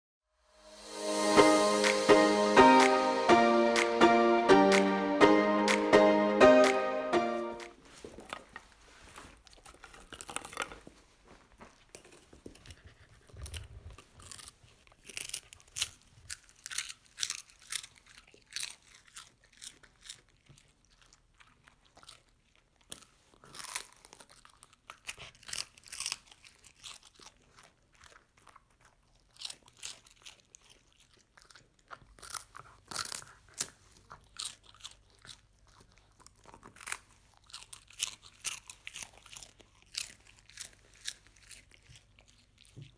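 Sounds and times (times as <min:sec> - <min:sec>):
dog crunching puffed rice: 0:07.8 - 0:42.9.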